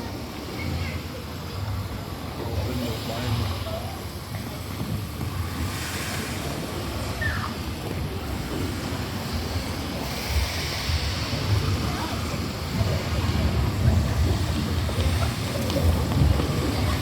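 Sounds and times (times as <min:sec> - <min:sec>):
surf-like rushing noise: 0:00.0 - 0:17.0.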